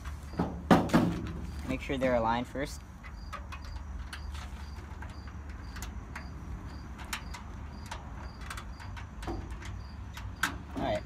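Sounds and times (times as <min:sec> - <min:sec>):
steel panels clicking and tapping: 0:00.0 - 0:01.7, 0:02.7 - 0:11.0.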